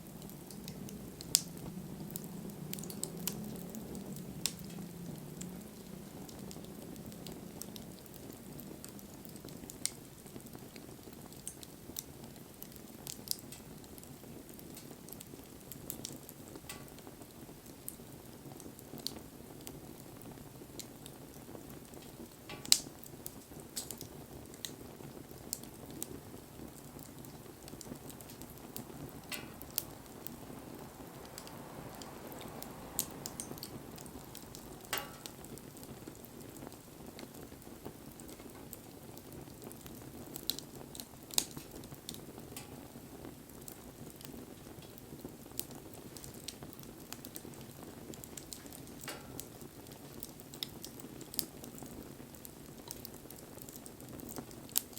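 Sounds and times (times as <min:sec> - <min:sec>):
crackles and pops of burning wood: 0:00.0 - 0:54.9
wood fire burning: 0:00.0 - 0:54.9.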